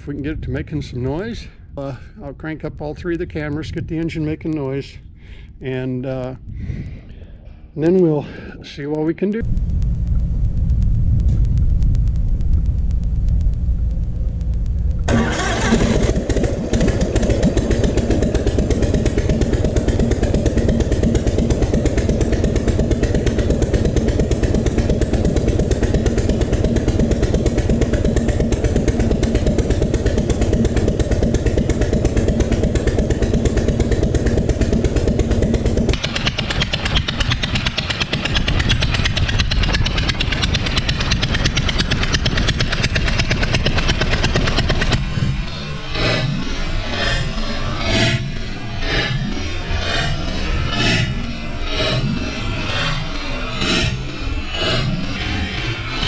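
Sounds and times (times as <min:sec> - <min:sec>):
propeller aircraft engine running: 0:00.0 - 0:56.0.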